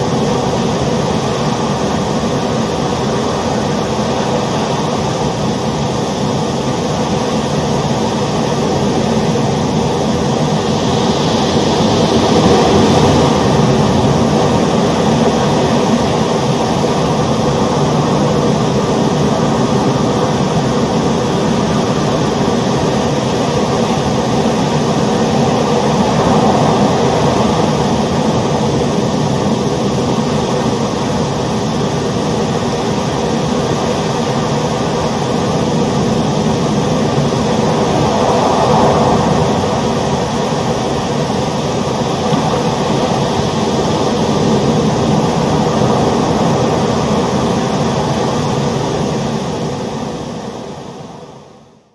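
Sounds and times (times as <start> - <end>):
ocean surf rushing: 0.0 - 51.4.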